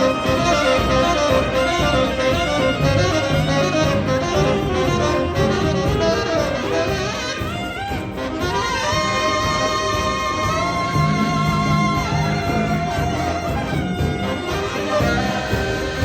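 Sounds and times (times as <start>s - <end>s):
bass guitar: 0.0s - 16.0s
piano: 0.0s - 16.0s
saxophone ensemble playing jazz: 0.0s - 16.0s.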